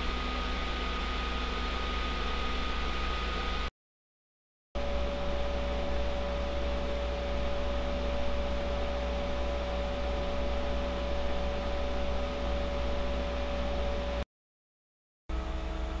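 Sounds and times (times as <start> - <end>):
cooling fan running: 0.0 - 3.7, 4.8 - 14.2, 15.3 - 16.0.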